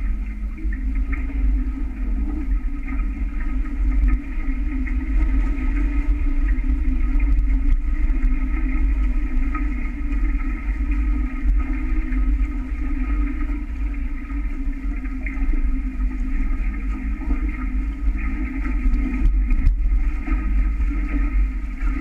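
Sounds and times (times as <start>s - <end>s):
water rushing along hulls: 0.0s - 22.0s.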